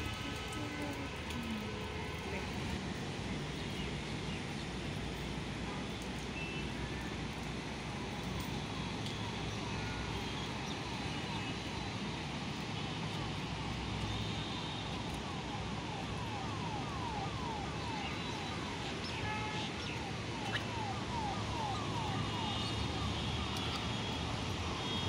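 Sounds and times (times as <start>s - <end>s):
distant traffic rumble: 0.0s - 13.9s, 14.9s - 25.0s.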